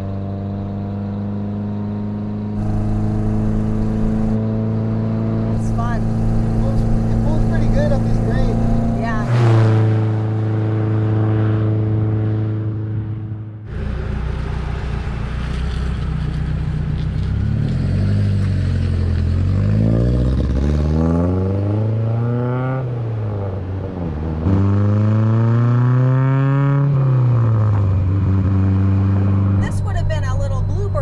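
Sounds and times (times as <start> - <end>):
car engine revving: 0.6 - 31.0.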